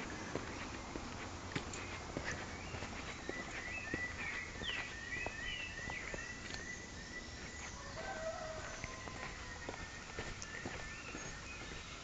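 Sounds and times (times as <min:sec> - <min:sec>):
birds chirping in woodland: 0:00.0 - 0:12.0
footsteps on stone path: 0:00.0 - 0:12.0.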